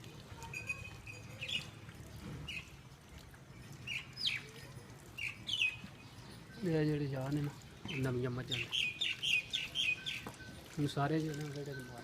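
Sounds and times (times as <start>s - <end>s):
birds chirping: 0.4s - 12.0s.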